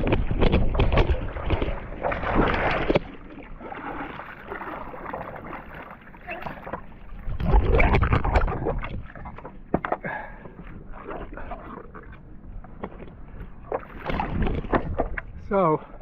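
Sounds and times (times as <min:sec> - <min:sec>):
water slapping against board: 0:00.0 - 0:15.4
paddle splashing through water: 0:00.0 - 0:16.0.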